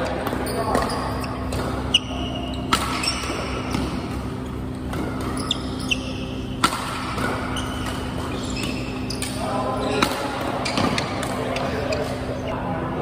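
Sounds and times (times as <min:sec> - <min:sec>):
rackets hitting shuttlecock: 0:00.0 - 0:12.4
steady low hum: 0:00.0 - 0:13.0.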